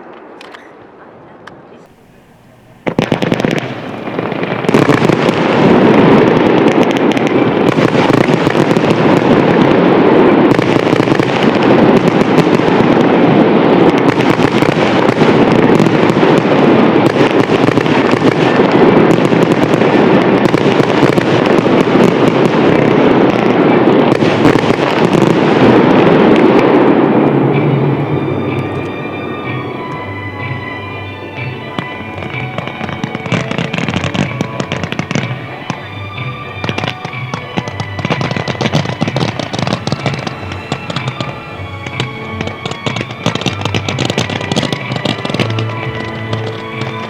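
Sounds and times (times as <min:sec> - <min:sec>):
fireworks bursts and crackles: 0:01.6 - 0:47.0.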